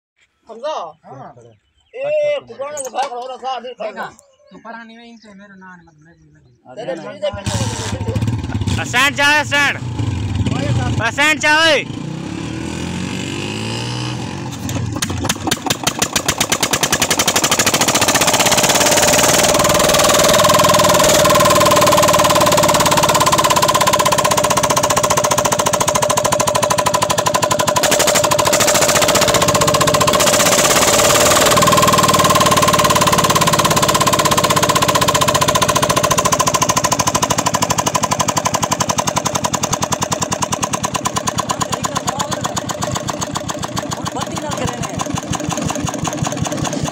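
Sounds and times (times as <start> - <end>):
diesel engine chugging: 7.3 - 13.7, 14.3 - 46.9.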